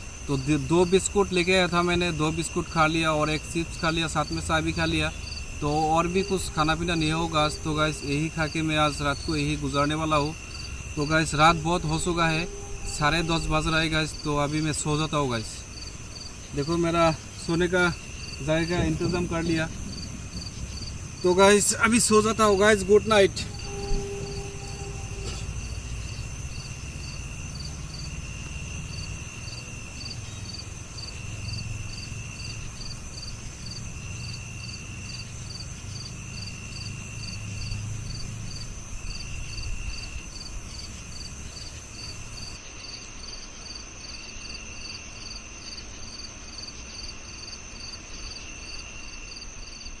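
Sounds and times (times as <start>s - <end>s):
low background rumble: 0.0s - 42.6s
crickets chirping: 0.0s - 50.0s.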